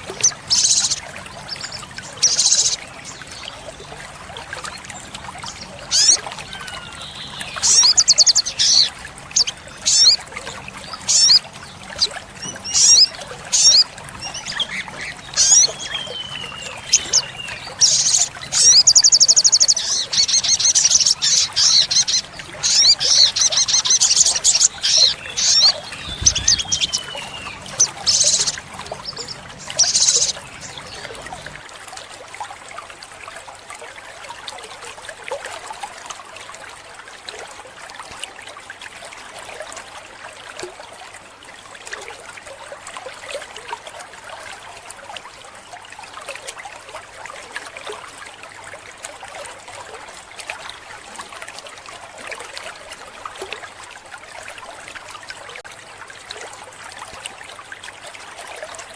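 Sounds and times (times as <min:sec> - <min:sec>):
trickling water: 0:00.0 - 0:58.9.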